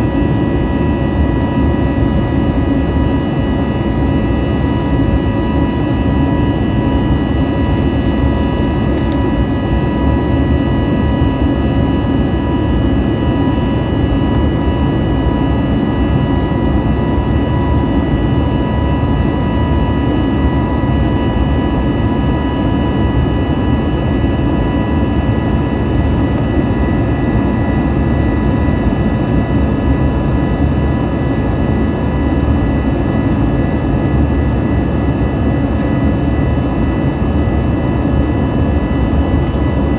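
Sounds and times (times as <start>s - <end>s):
jet engines rumbling and whining: 0.0s - 39.9s.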